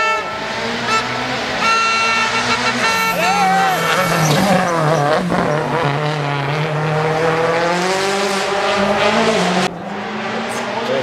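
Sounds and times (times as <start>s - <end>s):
rally car engine driven hard: 0.0s - 11.0s.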